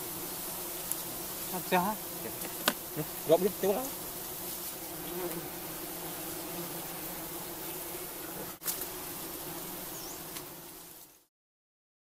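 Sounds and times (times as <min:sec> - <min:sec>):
bees buzzing: 0:00.0 - 0:11.3.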